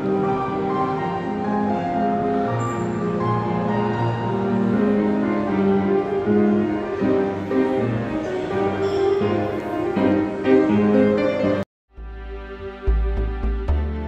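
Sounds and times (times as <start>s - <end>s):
instrumental music with held notes: 0.0s - 14.0s.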